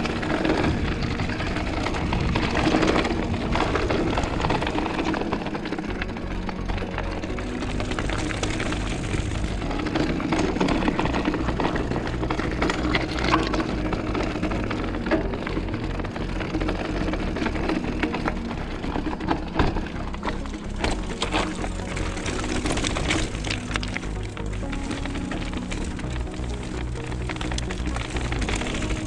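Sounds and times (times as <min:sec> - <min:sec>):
background music: 0:00.0 - 0:29.0
bike rattling: 0:00.0 - 0:29.0
tyres crunching over stones: 0:00.0 - 0:29.0.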